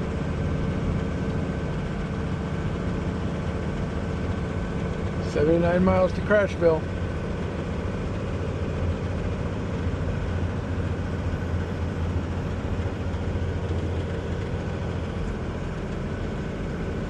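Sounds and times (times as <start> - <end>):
road noise: 0.0 - 17.0
truck diesel engine drone: 0.0 - 17.0.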